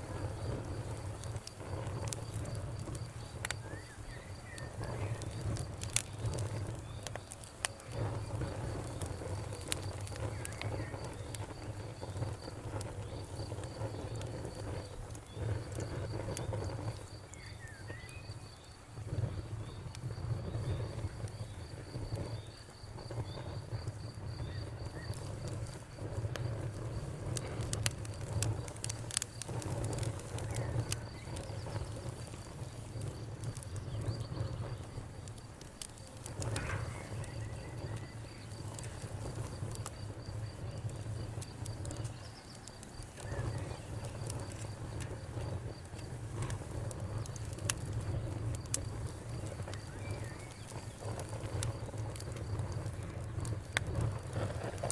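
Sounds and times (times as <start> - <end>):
wood fire crackling: 0.0 - 54.9
cricket chirping: 0.1 - 54.2.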